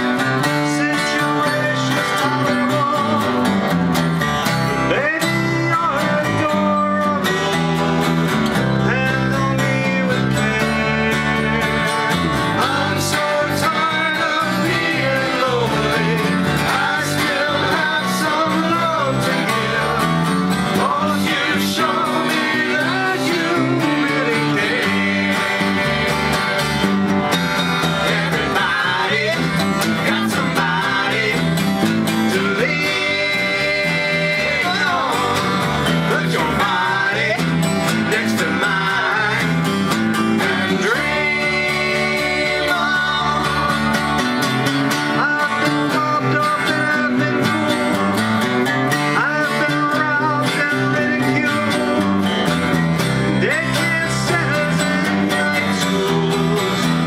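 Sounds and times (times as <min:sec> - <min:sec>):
acoustic guitar strumming: 0:00.0 - 0:57.0
backing voices singing: 0:00.0 - 0:57.0
man singing into microphone: 0:00.2 - 0:03.4, 0:04.9 - 0:26.0, 0:28.0 - 0:39.6, 0:40.3 - 0:43.9, 0:45.1 - 0:48.1, 0:49.1 - 0:52.1, 0:53.3 - 0:57.0.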